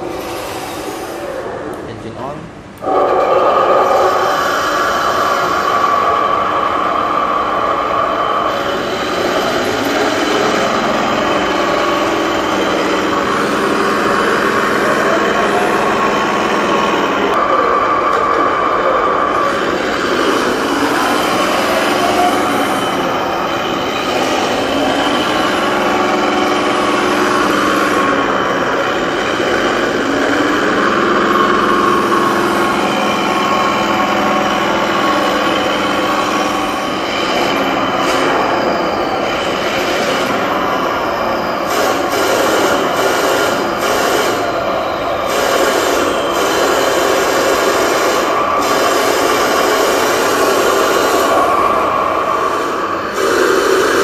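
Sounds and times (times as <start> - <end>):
toy tank tracks rattling and whining: 2.8 - 54.0.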